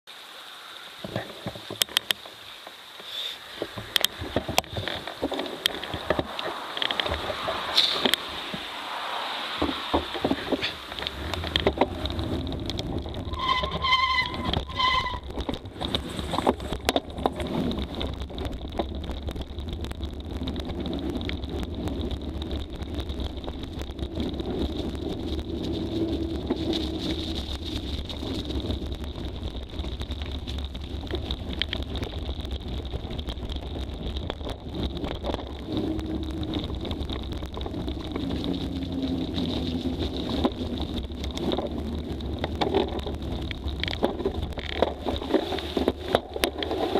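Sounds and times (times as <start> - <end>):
bike tyre noise: 0.1 - 46.9
bike rattling clicks and knocks: 1.0 - 8.8, 9.5 - 46.9
low wind rumble: 3.4 - 46.9.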